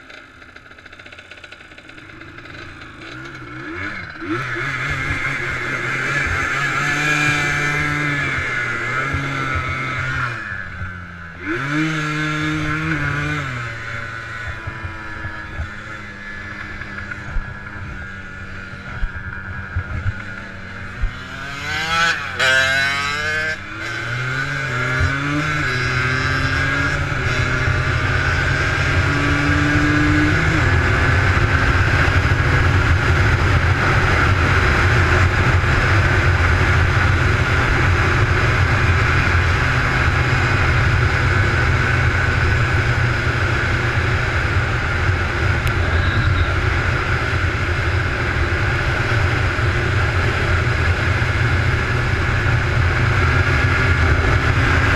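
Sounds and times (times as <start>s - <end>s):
quad engine revving: 0.0s - 54.9s.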